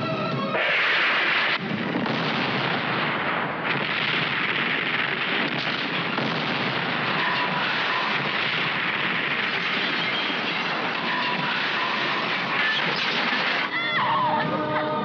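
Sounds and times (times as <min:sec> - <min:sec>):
explosion blasts: 0:00.1 - 0:14.0.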